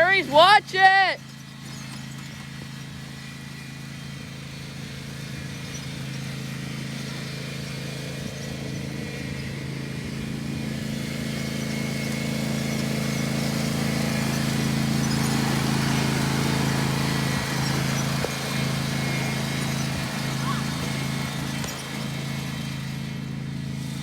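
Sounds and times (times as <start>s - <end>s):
riding lawn mower engine running: 0.0s - 24.0s.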